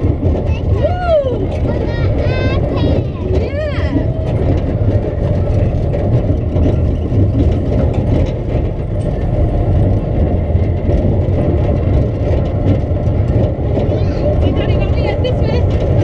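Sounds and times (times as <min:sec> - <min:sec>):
roller coaster rumbling on track: 0:00.0 - 0:16.0
wind buffeting microphone: 0:00.0 - 0:16.0.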